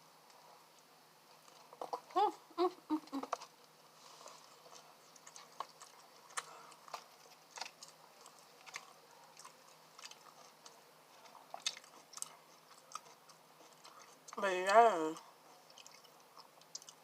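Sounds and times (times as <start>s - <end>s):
faint chewing: 0.3s - 2.2s, 3.0s - 17.0s.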